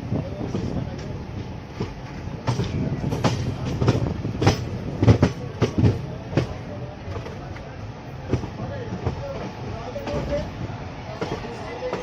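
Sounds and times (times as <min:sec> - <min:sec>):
train wheels clacking over rails: 0:00.0 - 0:12.0.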